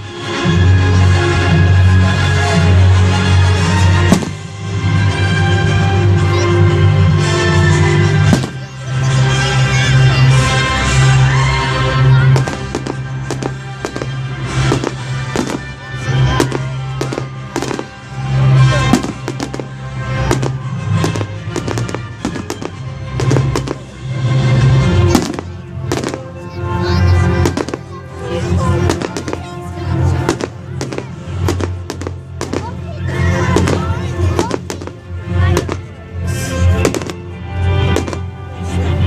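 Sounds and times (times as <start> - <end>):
background music: 0.0 - 39.0
fireworks bangs and crackles: 0.0 - 39.0.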